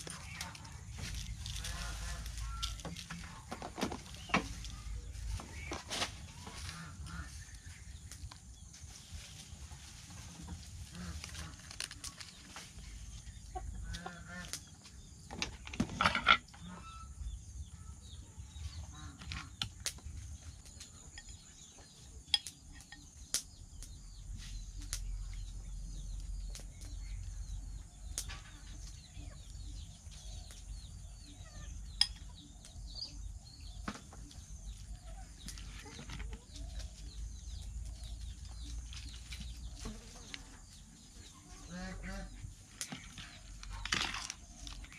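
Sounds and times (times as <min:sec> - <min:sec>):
chickens clucking: 0:00.0 - 0:17.2, 0:24.2 - 0:44.9.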